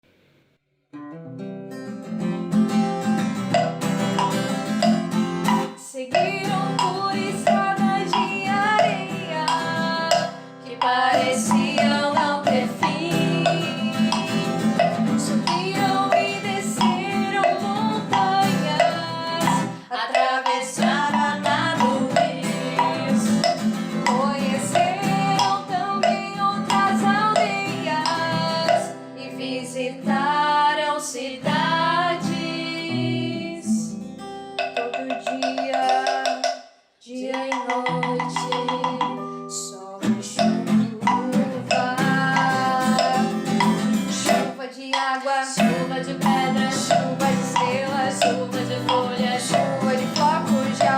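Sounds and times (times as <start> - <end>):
strummed acoustic guitar: 0.9 - 36.5, 37.2 - 50.9
woman singing: 4.2 - 34.1, 34.8 - 50.9.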